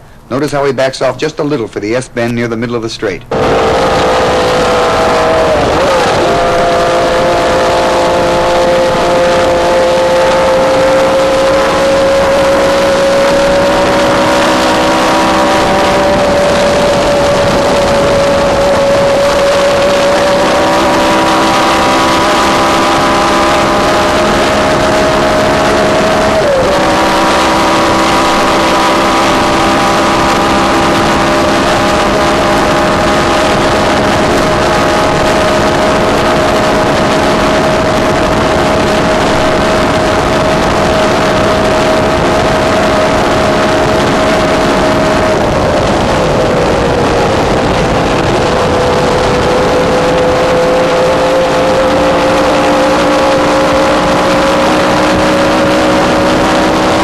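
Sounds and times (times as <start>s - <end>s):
racing car engine at full throttle: 3.2s - 57.0s.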